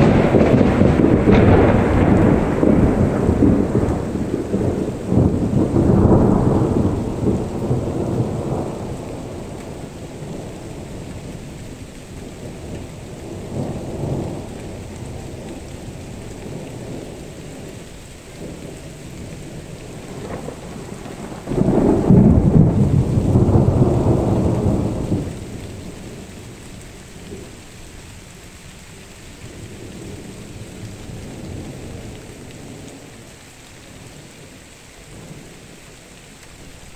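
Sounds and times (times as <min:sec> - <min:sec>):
thunder rumbling: 0:00.0 - 0:27.9, 0:28.6 - 0:36.9
rain hiss: 0:00.0 - 0:36.9.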